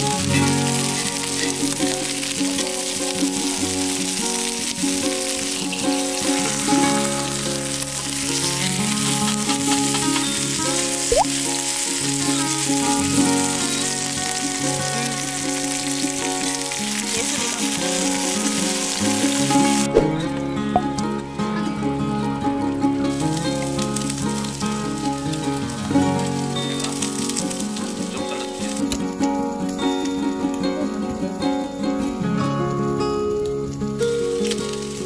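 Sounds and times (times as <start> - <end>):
food sizzling in hot oil: 0.0 - 21.0, 23.0 - 32.1, 33.6 - 35.0
background music: 0.0 - 35.0.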